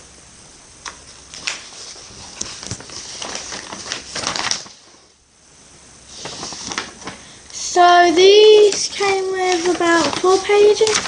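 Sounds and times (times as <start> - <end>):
paper sheets rustling: 0.9 - 5.2, 6.0 - 11.0.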